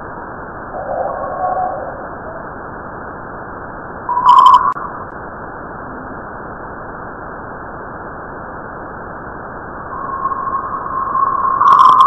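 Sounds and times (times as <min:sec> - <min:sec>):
steady tone: 0:00.0 - 0:07.0, 0:08.4 - 0:12.0
steady hiss: 0:00.0 - 0:12.0.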